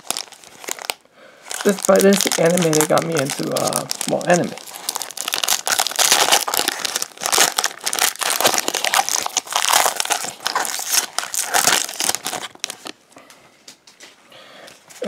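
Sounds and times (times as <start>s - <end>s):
foil pack tearing and crinkling: 0.0s - 13.0s.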